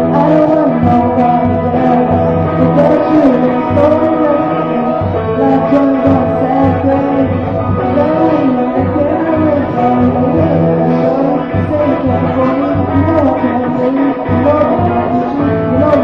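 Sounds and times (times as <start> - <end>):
loud dance music: 0.0 - 16.0.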